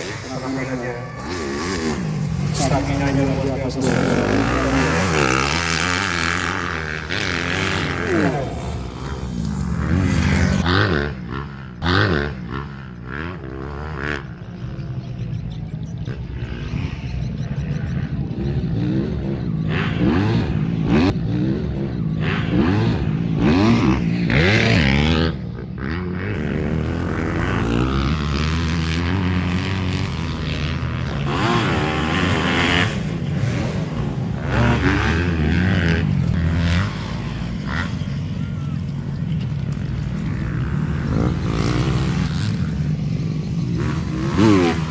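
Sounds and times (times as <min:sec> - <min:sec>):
racing motorcycles revving past: 0:00.0 - 0:44.9.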